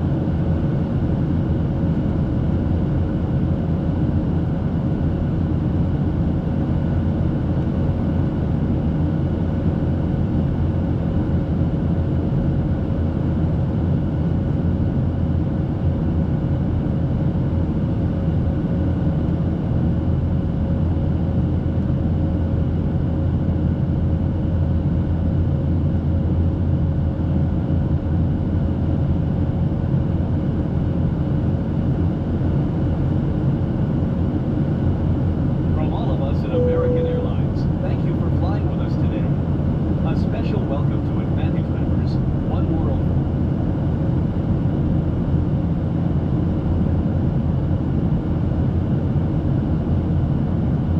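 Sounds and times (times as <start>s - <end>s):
airplane cabin low rumble: 0.0s - 50.9s
faint constant hum: 0.0s - 50.9s.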